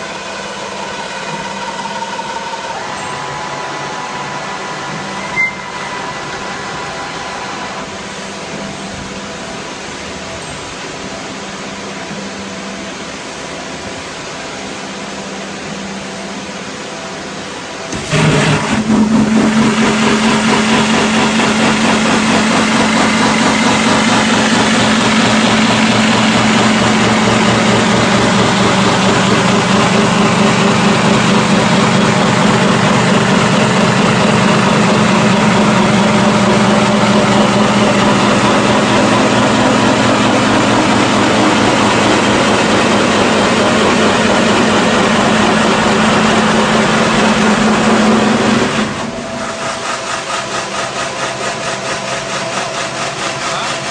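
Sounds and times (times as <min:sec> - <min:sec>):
constant low hum: 0:00.0 - 0:53.9.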